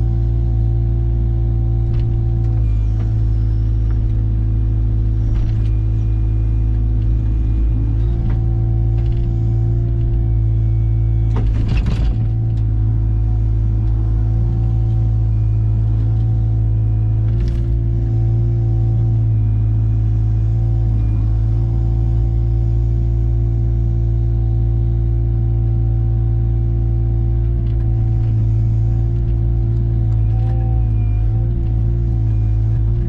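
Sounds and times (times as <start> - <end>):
large engine running steadily: 0.0 - 33.0.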